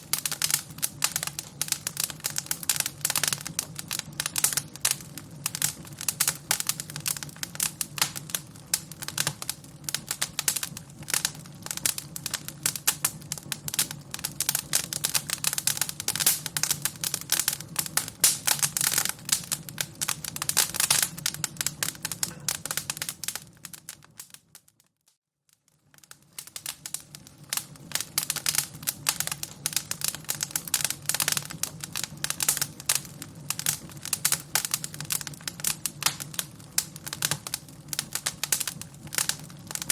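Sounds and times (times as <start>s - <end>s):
fire crackling: 0.0s - 24.9s, 25.5s - 39.9s.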